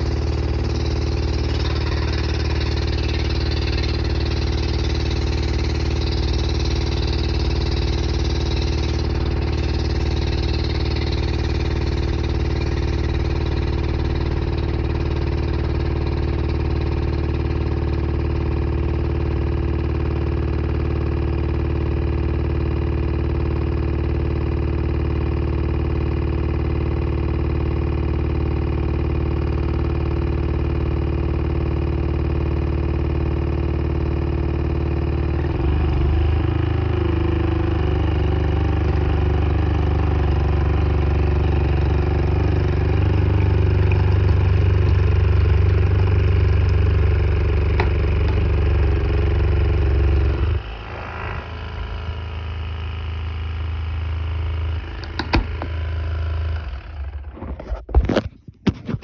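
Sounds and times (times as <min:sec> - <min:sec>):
water flosser pump humming: 0:00.0 - 0:58.2.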